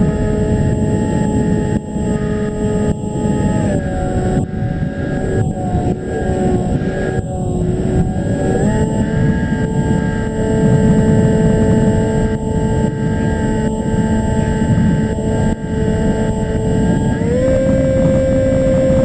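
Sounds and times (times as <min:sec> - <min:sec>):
electric motor and propeller whining: 0:00.0 - 0:19.0
wind rushing over microphone: 0:00.0 - 0:19.0.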